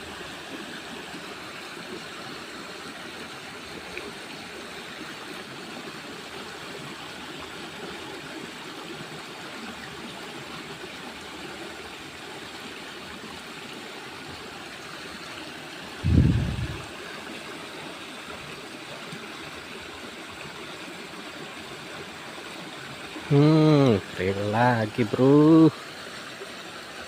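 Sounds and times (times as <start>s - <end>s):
stream flowing: 0.0s - 27.0s.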